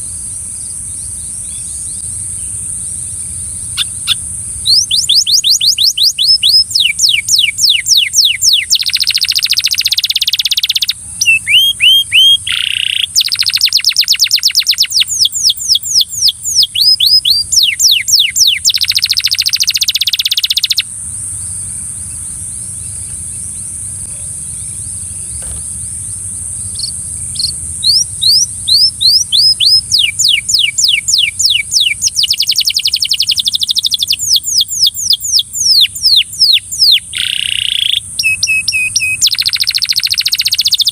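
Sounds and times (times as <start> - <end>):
canary singing: 0.6 - 40.9.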